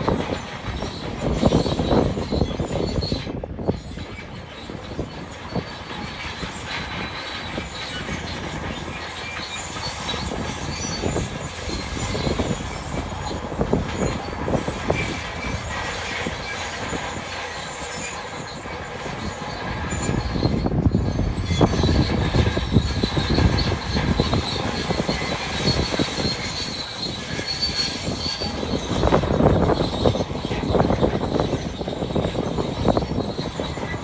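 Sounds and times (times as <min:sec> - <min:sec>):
steel tracks clanking and squealing: 0:00.0 - 0:34.0.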